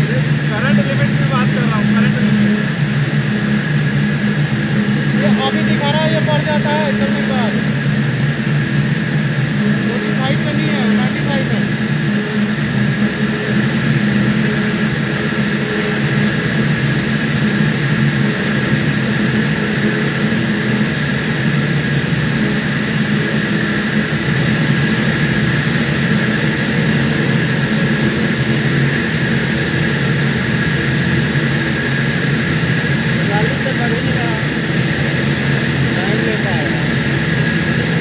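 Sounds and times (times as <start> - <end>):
chiller compressor running: 0.0 - 38.0
constant machine whine: 0.0 - 38.0.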